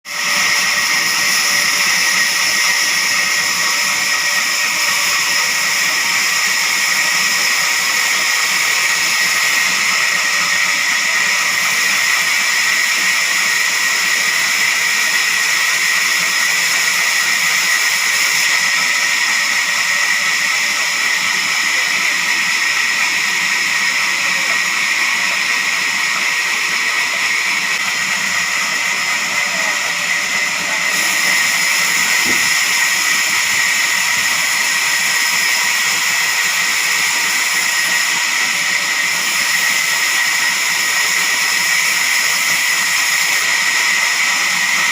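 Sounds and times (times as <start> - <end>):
saw whining: 0.1 - 44.9.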